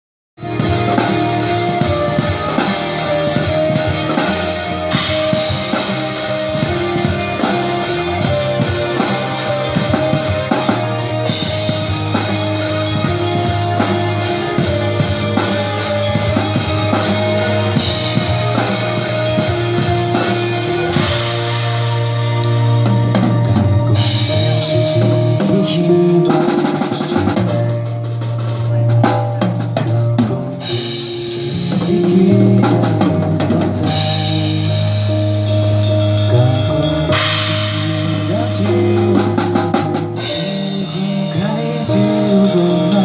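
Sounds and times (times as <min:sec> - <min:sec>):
backing track with guitar and bass: 0:00.4 - 0:43.0
drum kits playing: 0:00.4 - 0:43.0.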